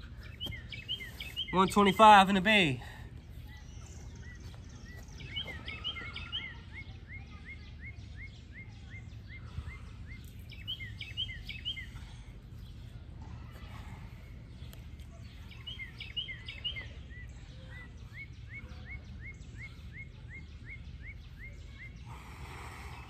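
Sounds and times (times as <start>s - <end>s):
bird chirping: 0.0s - 13.6s, 14.5s - 23.0s.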